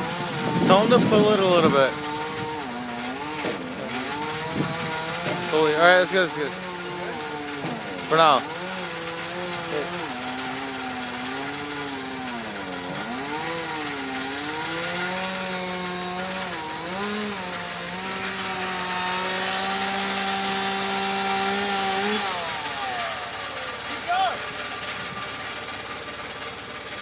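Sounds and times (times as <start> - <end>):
chainsaw cutting at high revs: 0.0 - 27.0.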